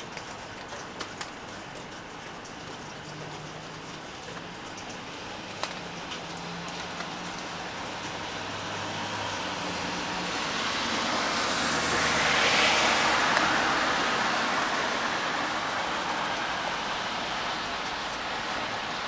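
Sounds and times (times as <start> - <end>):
steady rainfall: 0.0 - 19.0
car tyres hissing on wet road: 3.1 - 19.0.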